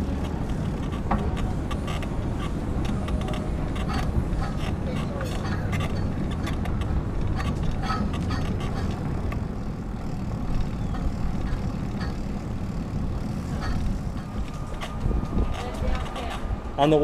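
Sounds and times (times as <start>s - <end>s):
faint clicks and rattles: 0.0s - 16.5s
bicycle rolling over brick pavers: 0.0s - 17.0s
wind buffeting microphone: 0.0s - 17.0s.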